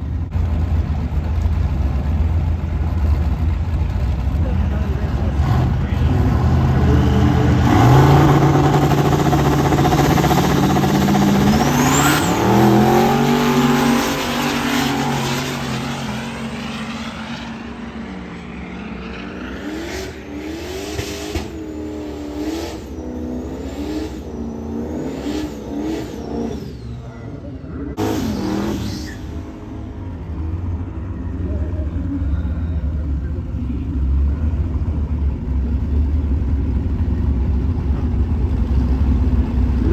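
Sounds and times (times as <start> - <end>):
drag-race engines accelerating: 0.0 - 39.9
engine pitch swinging up and down: 0.0 - 39.9
faint turbo whistles: 0.0 - 39.9
rising turbo whine: 4.5 - 39.9.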